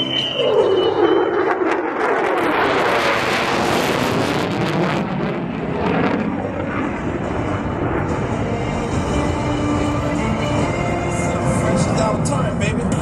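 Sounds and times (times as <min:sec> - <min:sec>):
fighter jet engine roaring past: 0:00.0 - 0:13.0.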